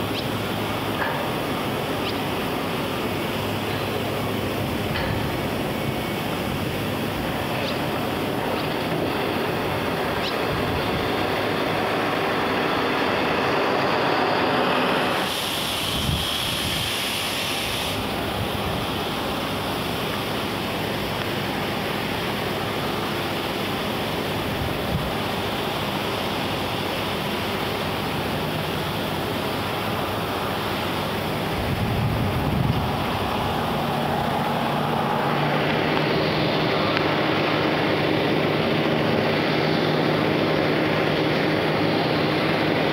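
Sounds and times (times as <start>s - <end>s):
steady rushing outdoor noise: 0.0s - 42.9s.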